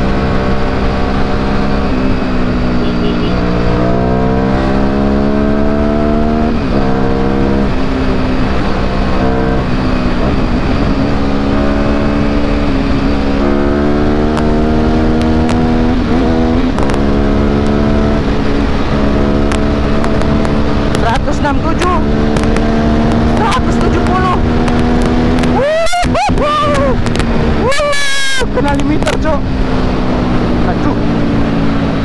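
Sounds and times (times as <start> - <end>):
motorcycle engine accelerating: 0.0 - 32.0
wind rushing: 3.4 - 32.0.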